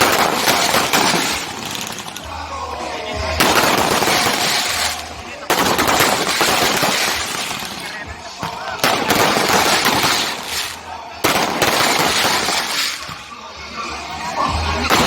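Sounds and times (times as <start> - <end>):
fireworks crackling: 0.0 - 13.6.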